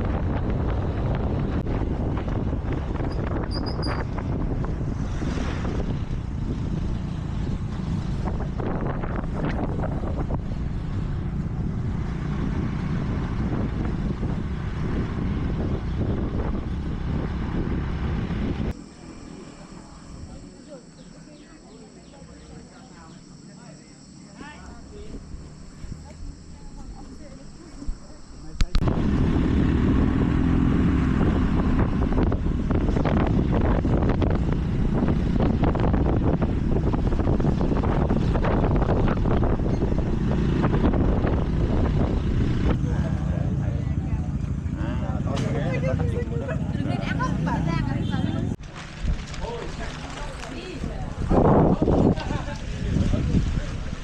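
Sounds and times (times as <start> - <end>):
wind buffeting microphone: 0.0 - 18.8, 24.9 - 54.0
motorbike engine and road rumble: 0.0 - 54.0.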